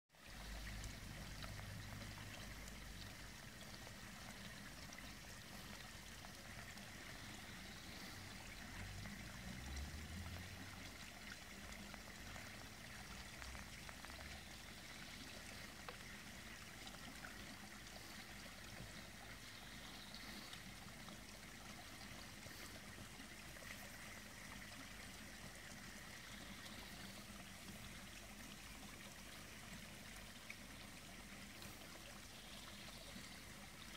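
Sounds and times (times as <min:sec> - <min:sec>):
water trickling into pond: 0:00.1 - 0:33.9.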